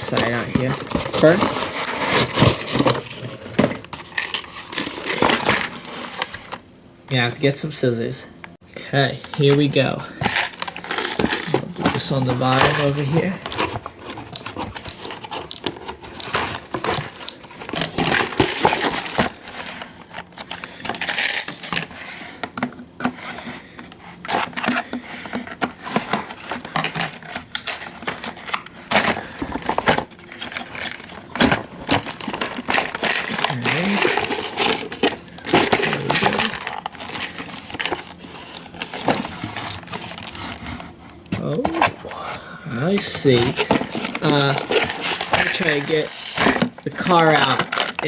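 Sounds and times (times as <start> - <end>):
scissors cutting packaging: 0.0 - 6.5, 10.2 - 22.0, 23.0 - 48.0
packaging crinkling: 0.0 - 6.6, 9.2 - 48.0.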